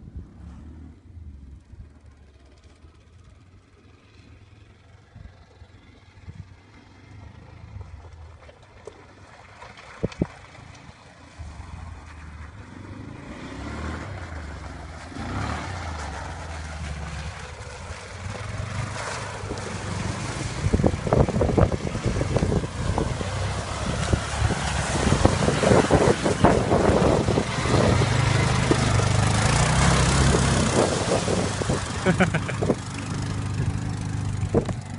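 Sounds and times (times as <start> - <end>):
quad bike engine running: 1.5 - 34.9.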